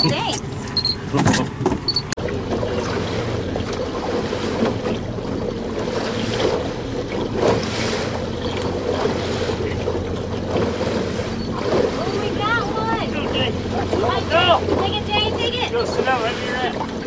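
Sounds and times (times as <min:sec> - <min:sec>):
boat motor humming: 0:00.0 - 0:17.0
water washing around hull: 0:00.0 - 0:17.0.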